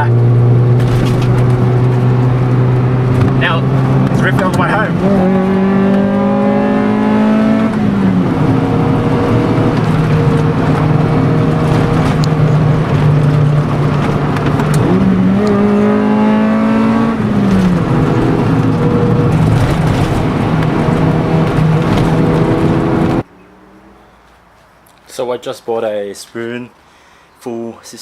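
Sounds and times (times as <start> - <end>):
car engine and exhaust: 0.0 - 24.9.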